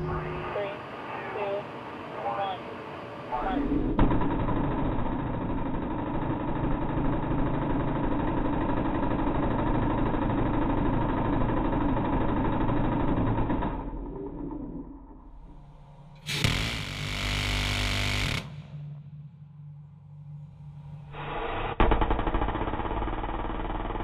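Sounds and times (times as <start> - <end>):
steady mechanical drone: 0.0 - 24.0.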